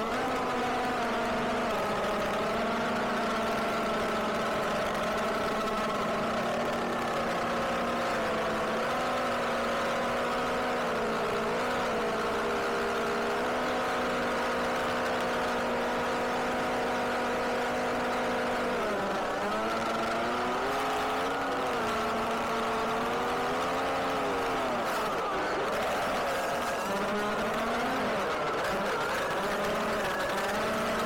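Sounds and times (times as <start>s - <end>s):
car cruising hum: 0.0s - 31.0s.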